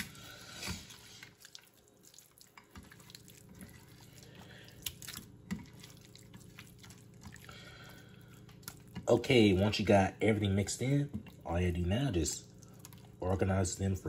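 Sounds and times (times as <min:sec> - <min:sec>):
hands squelching wet fish: 0:00.0 - 0:09.6, 0:10.8 - 0:13.3
steady low hum: 0:00.0 - 0:14.0.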